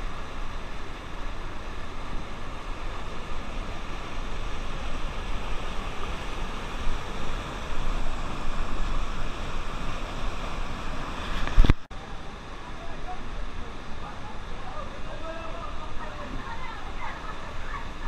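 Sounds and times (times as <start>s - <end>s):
white water rushing: 0.0s - 18.0s.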